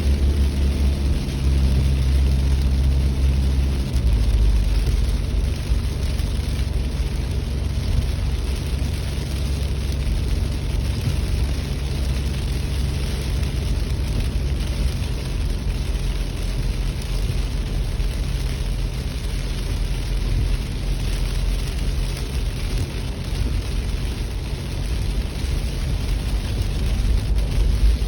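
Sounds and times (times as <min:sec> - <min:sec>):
vehicle road noise: 0:00.0 - 0:28.0.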